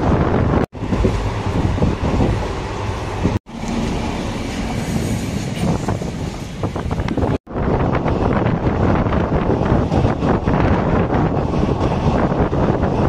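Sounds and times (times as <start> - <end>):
train coaches rumbling on track: 0.0 - 13.0.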